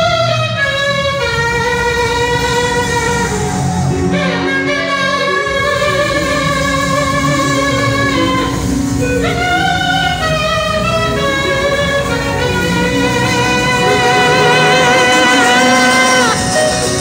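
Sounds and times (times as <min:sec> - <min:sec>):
buzzing comb horn melody: 0:00.0 - 0:17.0
loud backing music: 0:00.0 - 0:17.0.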